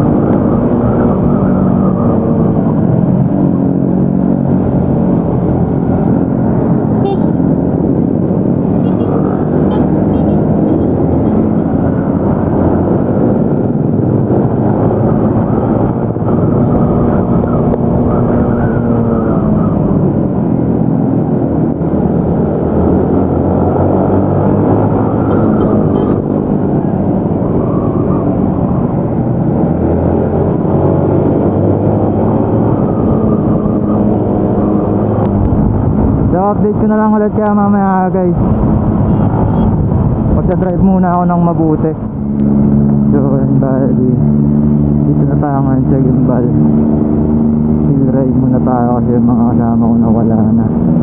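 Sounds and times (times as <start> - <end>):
riding wind noise: 0.0 - 51.0.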